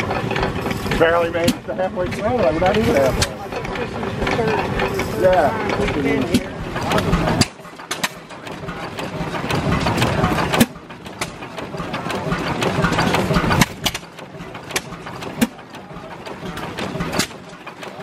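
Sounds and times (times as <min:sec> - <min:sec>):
stationary engines clattering and popping: 0:00.0 - 0:18.0.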